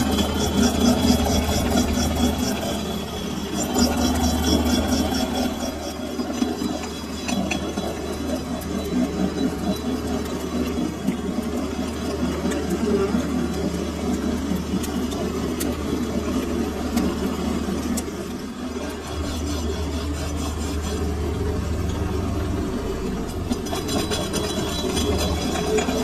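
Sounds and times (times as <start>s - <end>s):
lathe motor hum: 0.0s - 26.0s.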